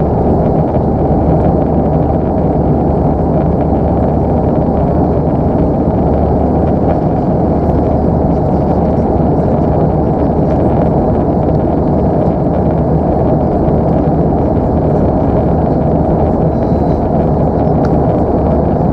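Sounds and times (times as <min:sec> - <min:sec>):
airliner cabin noise: 0:00.0 - 0:18.9.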